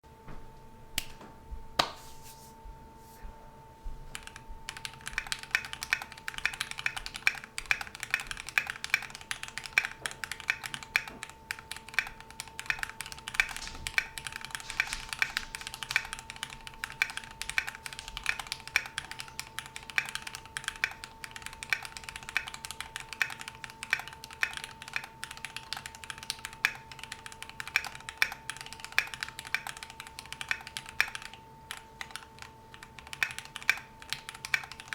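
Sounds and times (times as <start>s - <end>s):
mechanical keyboard typing: 4.1s - 34.9s.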